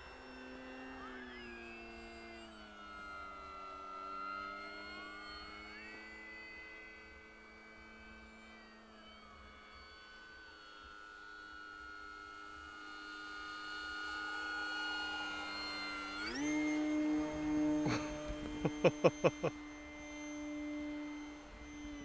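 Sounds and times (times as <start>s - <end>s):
model plane motor whine: 0.0s - 22.0s.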